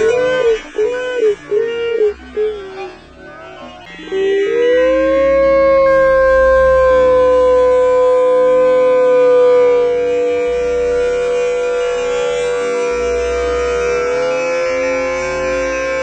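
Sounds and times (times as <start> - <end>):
long siren-like drone: 0.0 - 16.0
low hum: 0.0 - 16.0.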